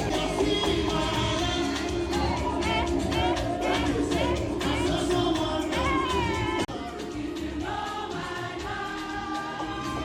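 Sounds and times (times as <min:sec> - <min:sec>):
song with singing voice: 0:00.0 - 0:10.0.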